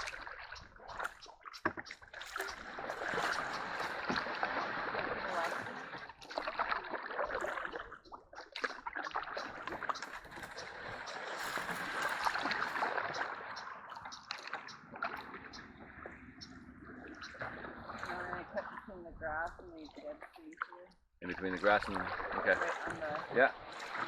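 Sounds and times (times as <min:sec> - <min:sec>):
paddle splashing water: 0:00.0 - 0:24.0.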